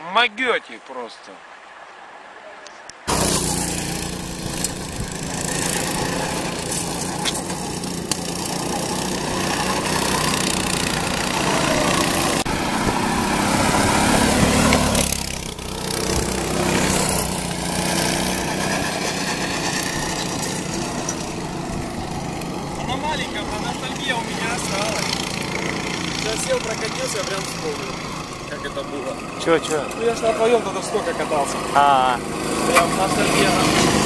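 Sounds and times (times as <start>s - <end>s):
go-kart engines running: 3.1s - 34.0s.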